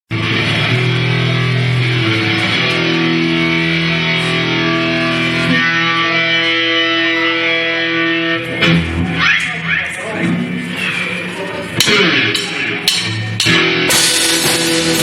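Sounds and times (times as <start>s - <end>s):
distorted electric guitar chords: 0.1s - 15.0s
live rock band playing: 0.1s - 15.0s.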